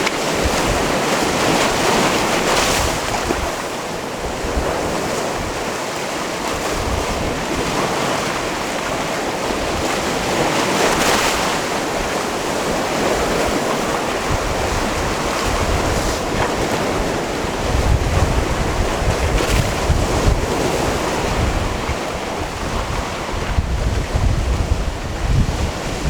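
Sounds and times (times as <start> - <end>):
waves washing on stony shore: 0.0 - 26.0
wind buffeting microphone: 0.0 - 26.0.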